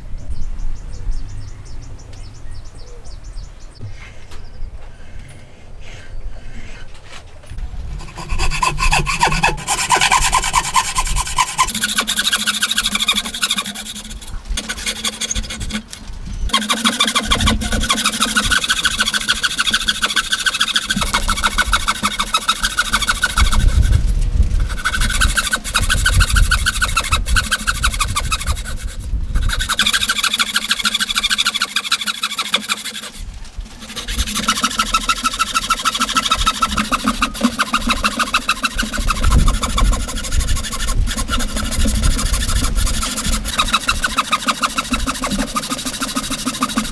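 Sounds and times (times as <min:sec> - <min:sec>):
hand saw cutting wood: 0:07.9 - 0:46.9.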